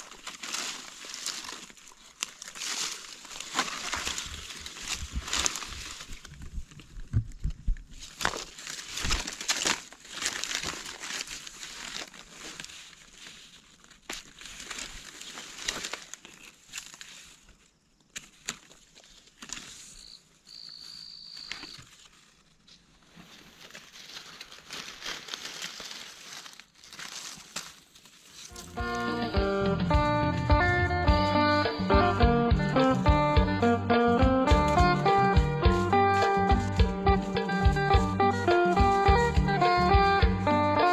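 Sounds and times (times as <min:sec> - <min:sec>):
rustling of dry leaves and twigs: 0:00.0 - 0:29.5, 0:34.6 - 0:40.9.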